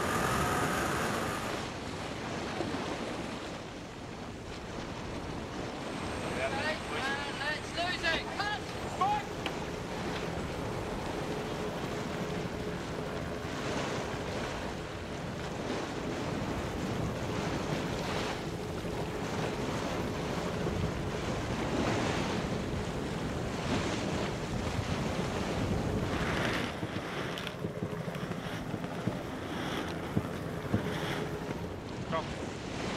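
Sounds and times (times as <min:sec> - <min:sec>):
sea water rushing: 0:00.0 - 0:32.9
wash and spray surges: 0:00.0 - 0:32.9
wind buffeting microphone: 0:00.0 - 0:32.9.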